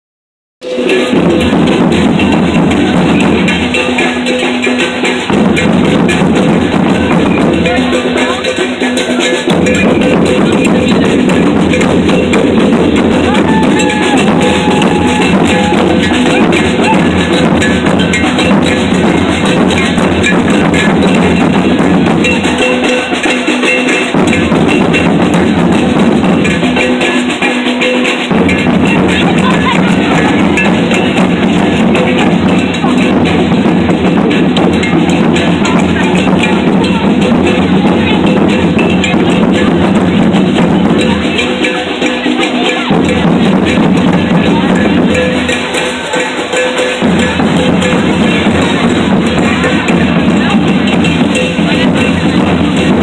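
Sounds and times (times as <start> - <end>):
cowbell clanking: 0.6 - 53.0
crowd noise: 0.6 - 53.0
drums beating: 0.6 - 53.0
street parade music: 0.6 - 53.0.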